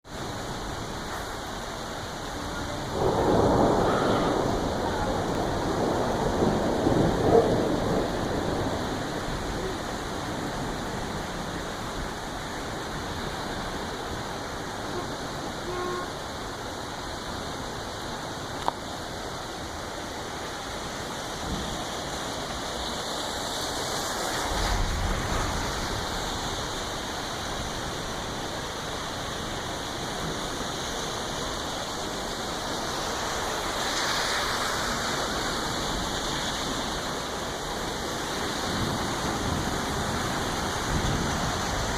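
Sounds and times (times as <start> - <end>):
floodwater rushing in a stream: 0.0 - 41.9.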